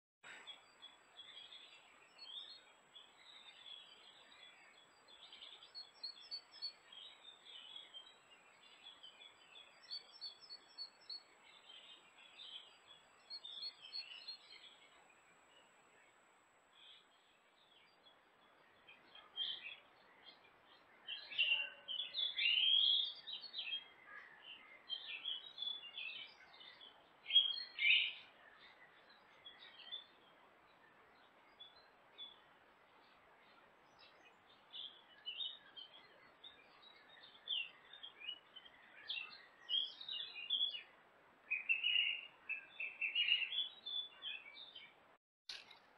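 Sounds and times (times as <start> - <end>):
songbirds singing and calling: 0.2 - 45.9.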